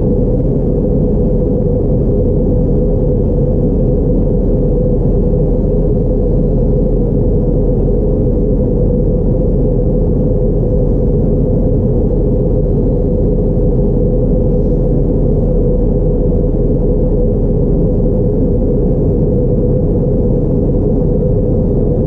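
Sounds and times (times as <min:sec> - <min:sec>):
aircraft cabin engine drone: 0:00.0 - 0:22.0
constant hum: 0:00.0 - 0:22.0.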